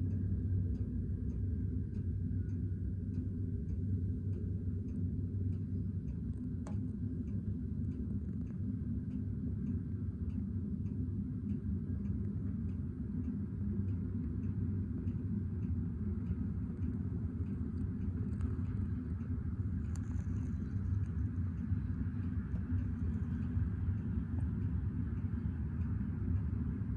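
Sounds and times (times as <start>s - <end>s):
faint regular ticking: 0.0s - 26.9s.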